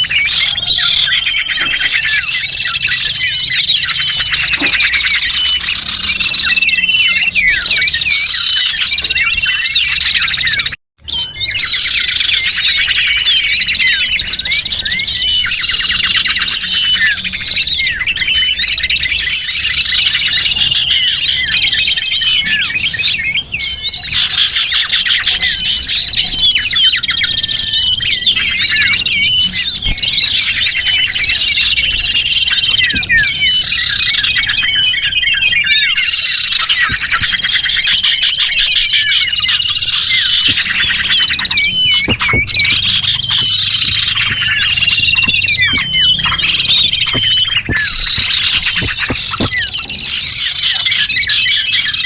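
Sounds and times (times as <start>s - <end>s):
songbirds chirping chorus: 0.0s - 52.0s.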